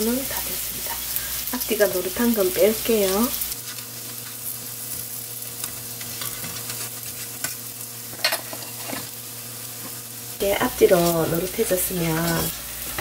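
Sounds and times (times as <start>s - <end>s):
eggplant slices sizzling in oil: 0.0s - 13.0s.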